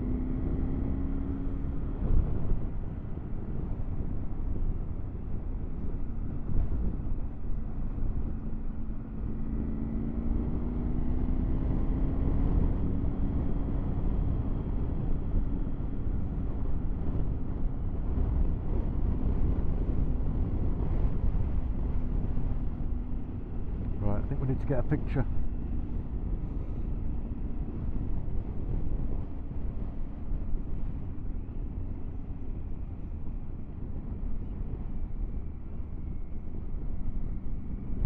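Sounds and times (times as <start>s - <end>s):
wind and road noise rumble: 0.0s - 38.0s.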